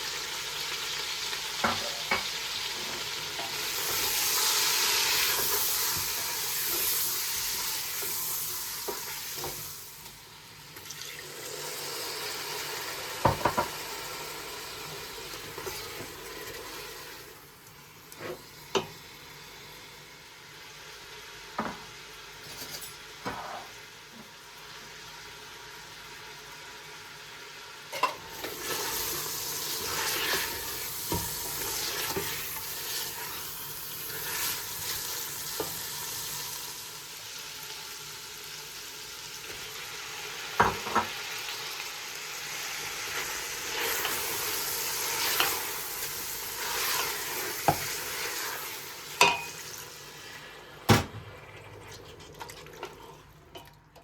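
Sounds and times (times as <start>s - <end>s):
food sizzling in a pan: 0.0s - 53.6s.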